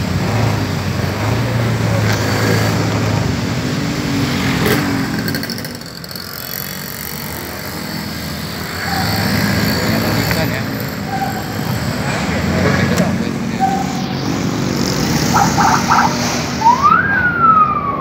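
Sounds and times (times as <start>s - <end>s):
motorcycle engine running: 0.0s - 16.6s
street noise: 0.0s - 18.0s.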